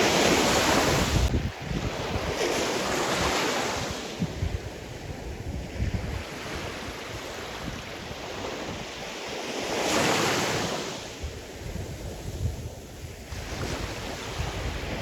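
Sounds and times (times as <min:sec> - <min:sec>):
waves washing in: 0:00.0 - 0:15.0
wind buffeting microphone: 0:00.0 - 0:15.0.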